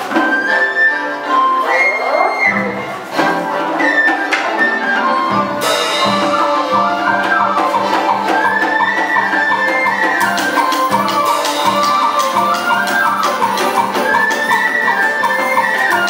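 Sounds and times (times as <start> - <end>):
folk melody with bending pitch: 0.0 - 16.0
percussion strikes: 2.5 - 16.0.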